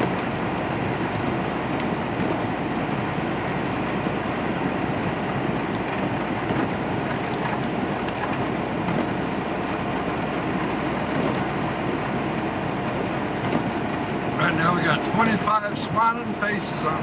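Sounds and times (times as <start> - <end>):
truck engine drone: 0.0 - 17.0
tyres hissing on wet road: 0.0 - 17.0.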